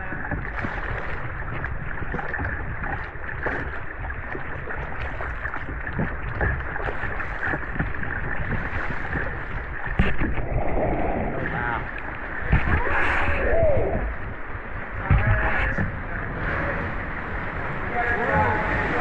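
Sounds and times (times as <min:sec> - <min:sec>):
kayak paddle splashing water: 0:00.0 - 0:19.0.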